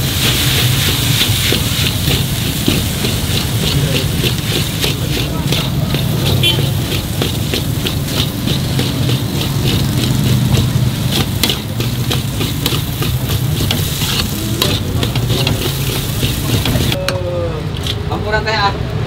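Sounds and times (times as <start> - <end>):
metal spatula scraping wok: 0.0 - 17.0
noodles sizzling in a wok: 0.0 - 17.0.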